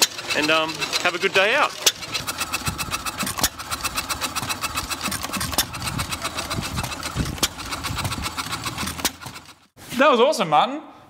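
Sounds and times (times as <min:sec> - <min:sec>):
stationary engine clattering: 0:00.0 - 0:09.8.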